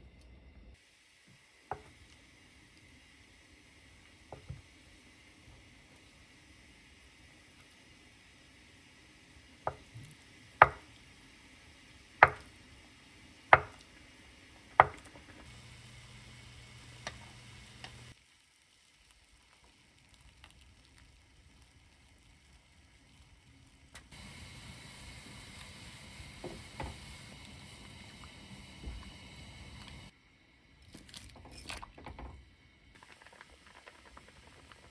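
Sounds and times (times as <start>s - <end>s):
pot of water bubbling: 1.6s - 30.2s, 30.8s - 34.9s.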